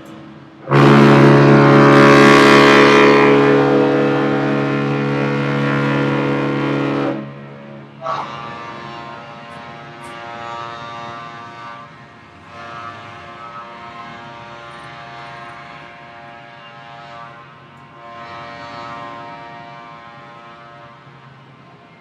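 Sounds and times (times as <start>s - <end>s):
ship's horn blast: 0.0s - 22.0s.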